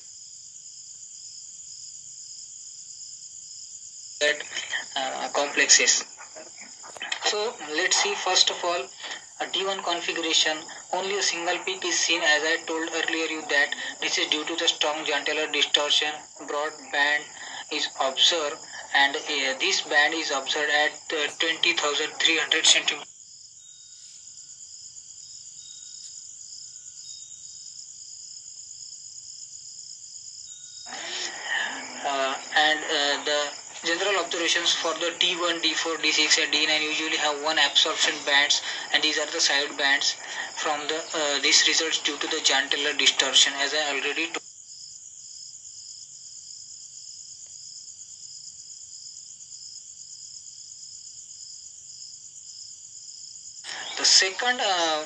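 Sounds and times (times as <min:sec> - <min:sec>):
insects chirring: 0:00.0 - 0:55.0
steady high-pitched hiss: 0:00.0 - 0:55.0.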